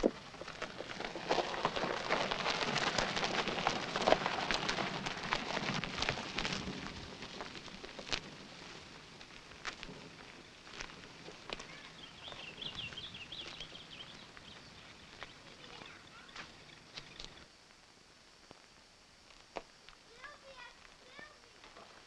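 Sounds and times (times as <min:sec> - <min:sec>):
tyres crunching on gravel: 0:00.0 - 0:22.0.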